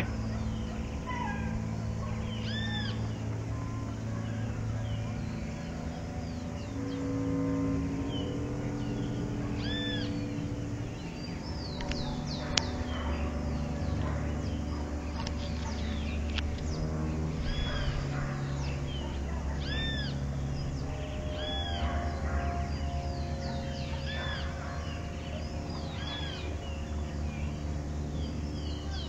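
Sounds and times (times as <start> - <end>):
bird call rising and falling: 0.0 - 29.0
birds chirping: 0.0 - 29.0
low hum of held tones: 0.0 - 29.0.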